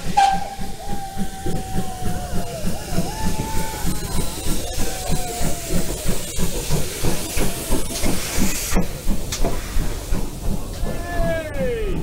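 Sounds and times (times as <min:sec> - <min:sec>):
low pulsing beat: 0:00.0 - 0:12.0
steam locomotive hissing: 0:00.0 - 0:12.0.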